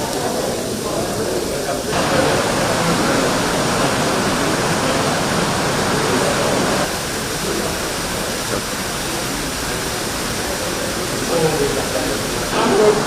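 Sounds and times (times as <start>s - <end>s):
murmur of voices: 0.0s - 13.0s
steady rushing noise: 1.6s - 13.0s.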